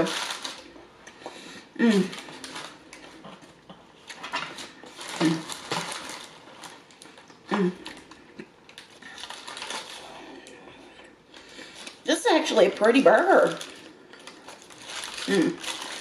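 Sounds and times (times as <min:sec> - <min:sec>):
paper wrapper crinkling: 0:00.0 - 0:00.8, 0:01.9 - 0:03.2, 0:04.0 - 0:10.6, 0:11.3 - 0:16.0.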